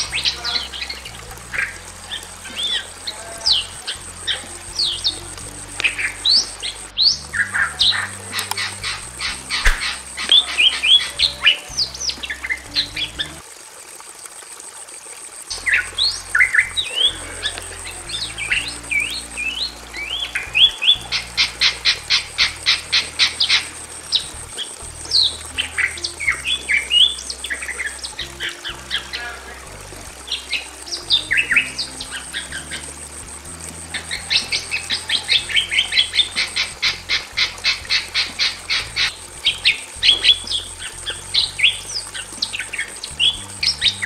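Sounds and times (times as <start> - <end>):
birds chattering and whistling: 0.0 - 13.4, 15.5 - 44.0.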